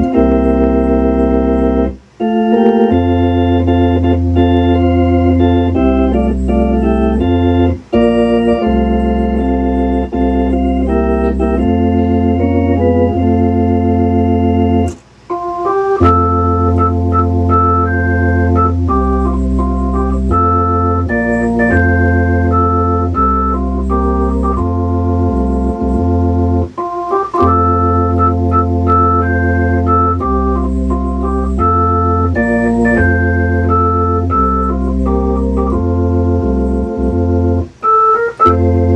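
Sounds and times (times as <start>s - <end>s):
organ chords: 0.0s - 38.9s
organ pedal bass line: 0.0s - 38.9s.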